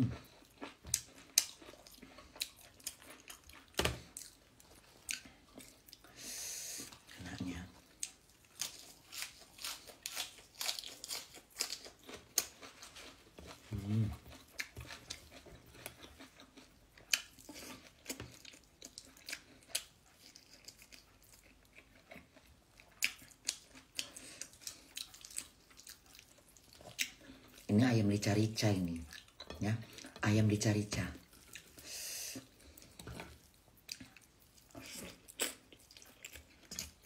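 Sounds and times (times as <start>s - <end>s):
wet chewing with mouth clicks: 0.0s - 27.7s, 31.2s - 37.0s.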